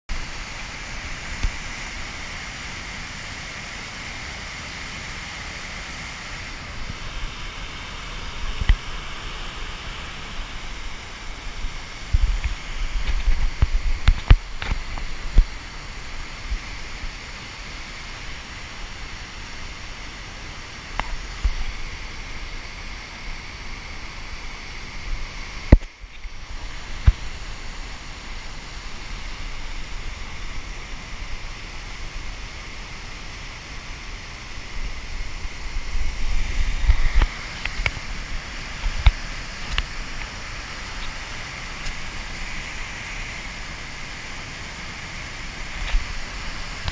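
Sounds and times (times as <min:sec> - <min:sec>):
whitewater rapids rushing: 0:00.1 - 0:46.9.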